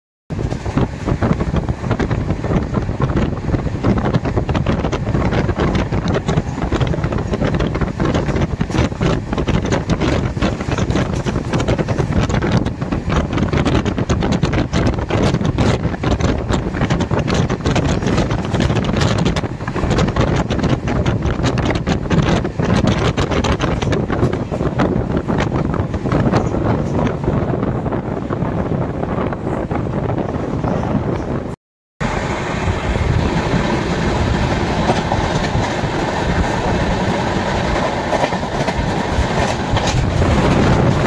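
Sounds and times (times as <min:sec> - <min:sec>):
train wheels rushing on rails: 0:00.3 - 0:41.0
wind buffeting microphone: 0:00.3 - 0:41.0.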